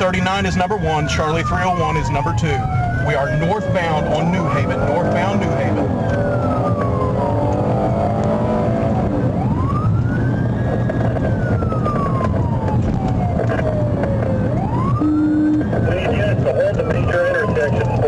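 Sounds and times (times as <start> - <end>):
car engine and road noise: 0.0 - 18.0
police siren wailing: 0.0 - 18.0.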